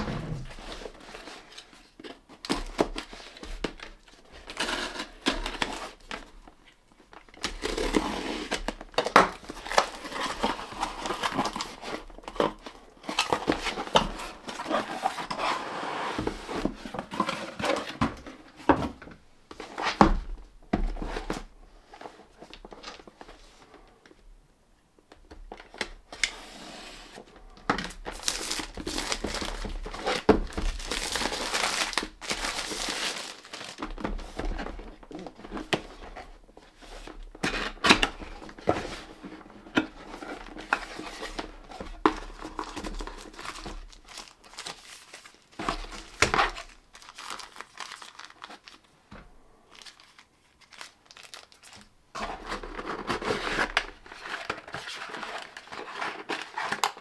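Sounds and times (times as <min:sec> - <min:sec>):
plastic and paper crinkling: 0:00.0 - 0:19.0, 0:27.2 - 0:57.0.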